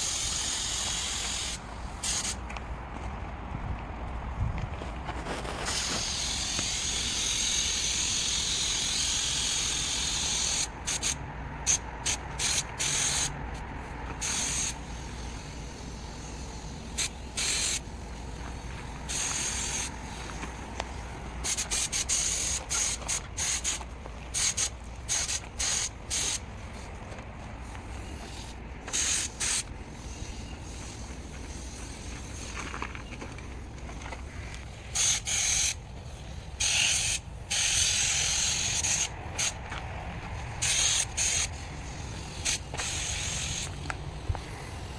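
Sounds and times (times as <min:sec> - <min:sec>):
spray paint hissing: 0:00.0 - 0:02.4, 0:05.3 - 0:44.9.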